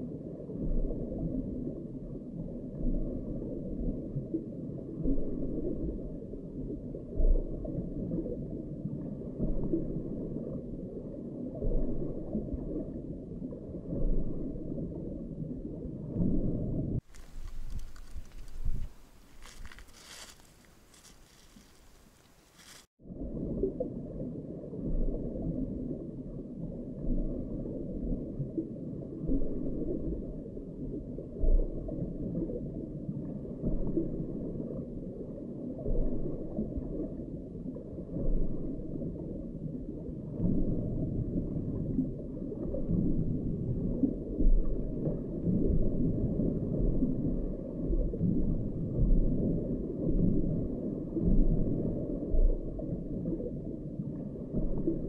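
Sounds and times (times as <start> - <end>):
muffled underwater rumble: 0.0 - 21.4, 23.0 - 55.0.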